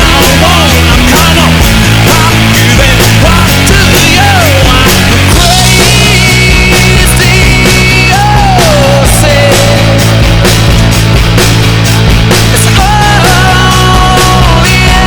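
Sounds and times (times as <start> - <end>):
distorted rock music: 0.0 - 15.0.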